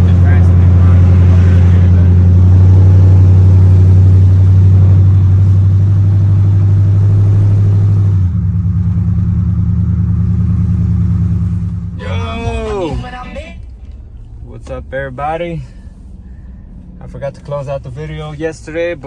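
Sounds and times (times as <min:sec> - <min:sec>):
loud car engine idling: 0:00.0 - 0:19.0.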